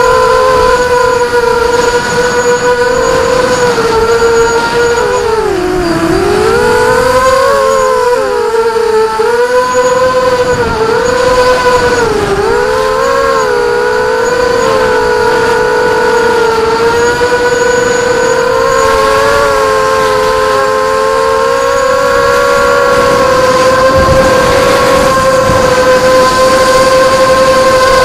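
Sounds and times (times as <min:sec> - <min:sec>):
drone propellers whining: 0:00.0 - 0:28.0.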